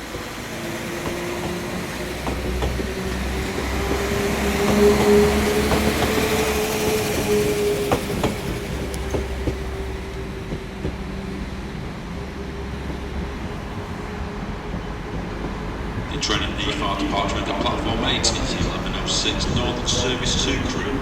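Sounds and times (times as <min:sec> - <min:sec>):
diesel train engine whine: 0:00.0 - 0:21.0
train wheels clicking: 0:00.1 - 0:21.0.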